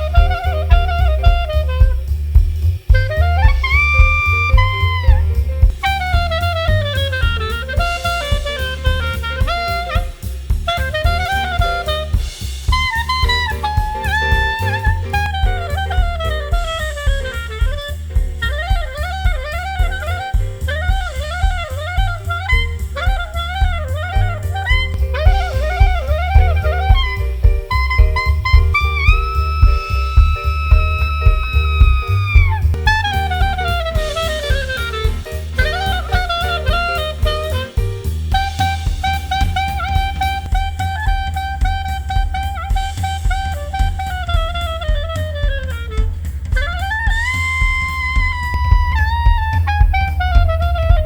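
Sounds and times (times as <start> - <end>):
drum kit: 0.0 - 51.0
heavy bass line: 0.0 - 51.0
saxophone melody: 0.0 - 51.0.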